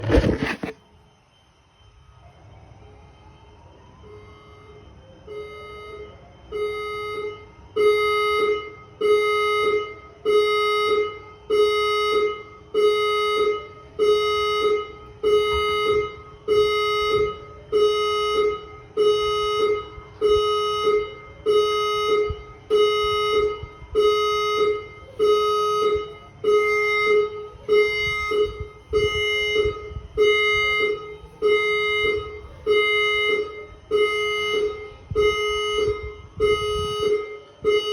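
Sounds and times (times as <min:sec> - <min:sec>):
electronic alarm blasts: 0:00.0 - 0:37.9
rising whoop siren: 0:00.9 - 0:37.9.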